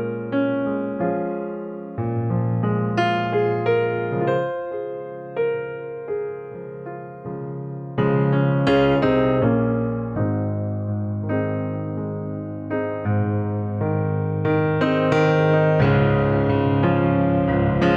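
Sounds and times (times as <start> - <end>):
slow gentle piano music: 0.0 - 17.9.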